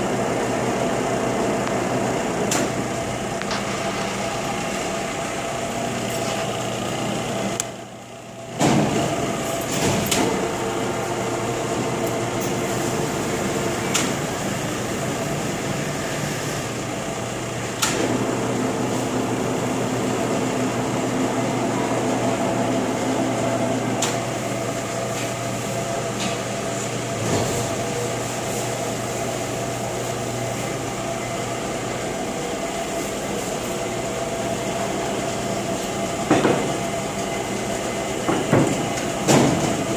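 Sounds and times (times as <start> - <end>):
lathe humming with gear whine: 0.0 - 8.5, 10.4 - 27.2, 29.6 - 39.2.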